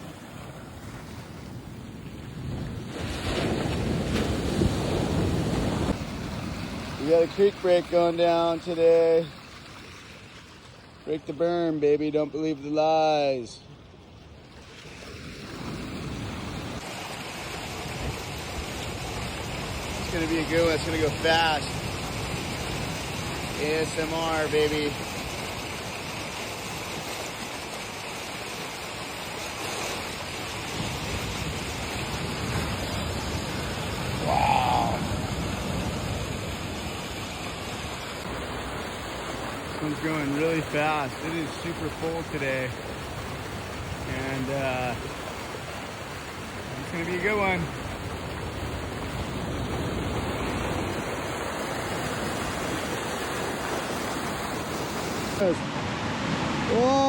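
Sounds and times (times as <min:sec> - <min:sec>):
creek water rushing: 0:00.0 - 0:57.0.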